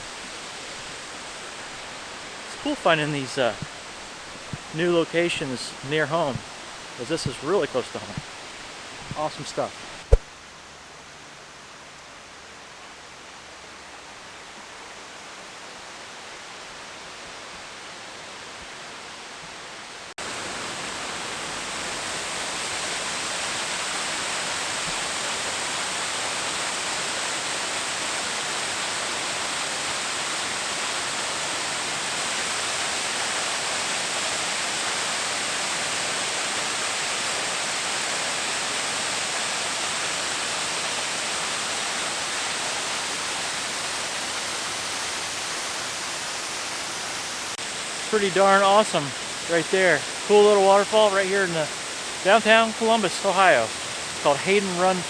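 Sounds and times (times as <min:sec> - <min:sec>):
waterfall rushing: 0:00.0 - 0:10.1, 0:14.2 - 0:55.0.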